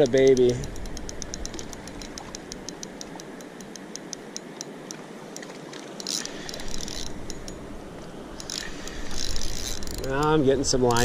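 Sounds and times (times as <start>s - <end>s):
fishing reel clicking: 0.0s - 4.4s, 5.3s - 7.6s, 8.4s - 11.0s.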